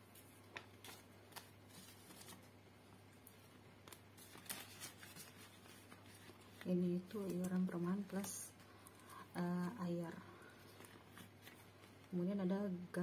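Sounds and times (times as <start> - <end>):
banknotes rustling: 0.0 - 12.3.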